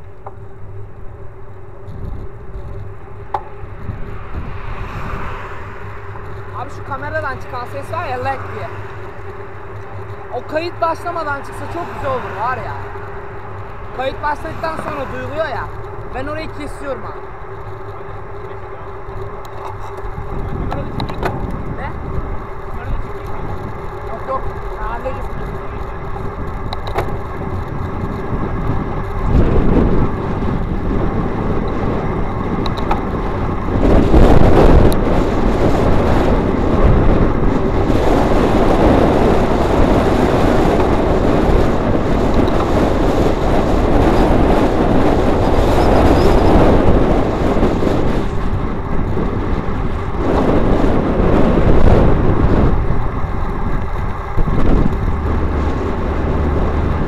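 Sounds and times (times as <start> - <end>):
motor vehicles passing: 0.0 - 57.0
wind and road noise: 0.0 - 57.0.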